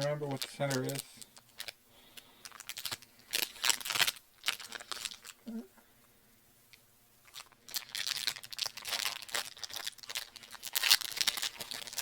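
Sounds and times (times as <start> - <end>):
chocolate bar crunching: 0.3 - 5.4, 7.2 - 12.0.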